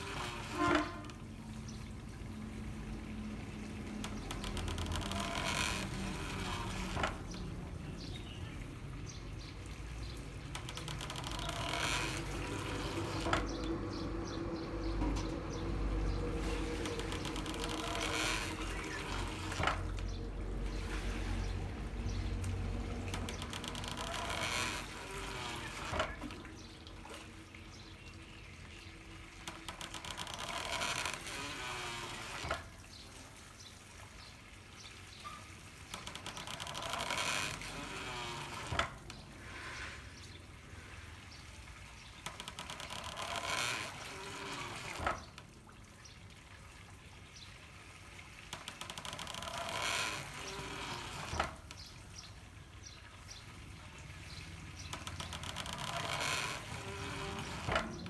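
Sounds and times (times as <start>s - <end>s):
water running through pipes: 0.0s - 58.0s.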